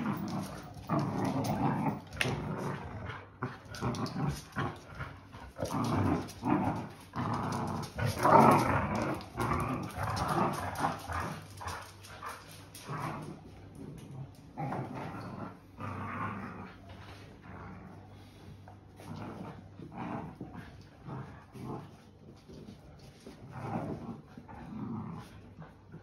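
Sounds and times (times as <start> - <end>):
dogs growling in play: 0.0 - 26.0.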